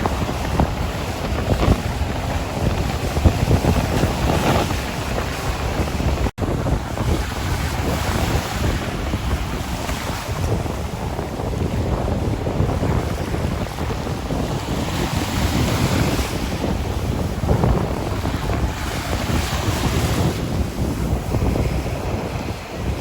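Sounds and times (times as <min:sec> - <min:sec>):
sea waves washing on shore: 0:00.0 - 0:23.0
wind buffeting microphone: 0:00.0 - 0:23.0.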